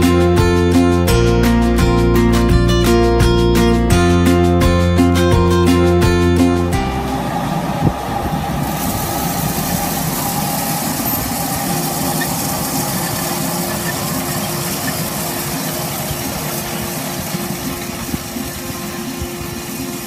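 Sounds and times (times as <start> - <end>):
acoustic guitar music: 0.0 - 20.0
tractor diesel engine running: 0.0 - 20.0.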